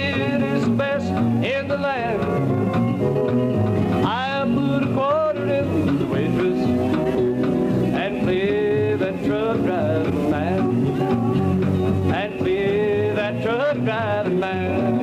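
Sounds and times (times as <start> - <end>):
country band playing: 0.0 - 15.0.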